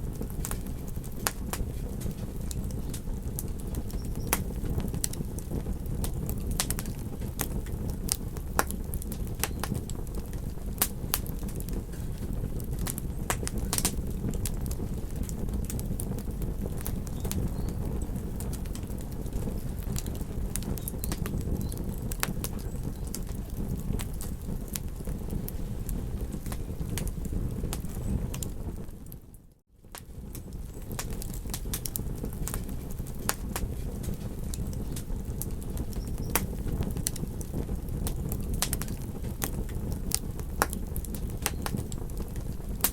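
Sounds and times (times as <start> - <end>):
campfire crackling: 0.0 - 42.9
fire pops and snaps: 0.0 - 42.9
low rush of fire: 0.0 - 42.9.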